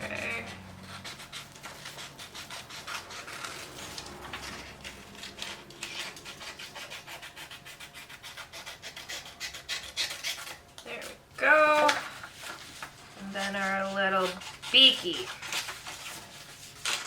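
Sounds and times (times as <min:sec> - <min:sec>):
paper rustling and scraping: 0:00.0 - 0:08.6, 0:09.4 - 0:17.0.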